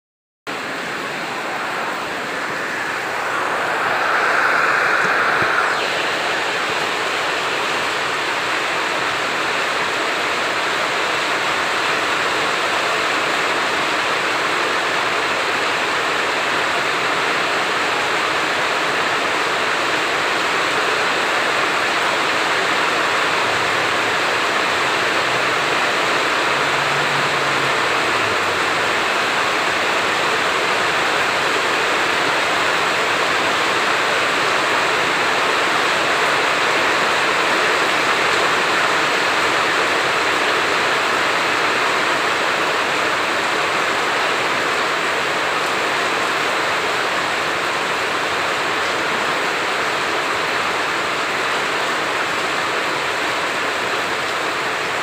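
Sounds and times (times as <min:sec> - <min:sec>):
heavy rain pouring: 0:00.5 - 0:55.0.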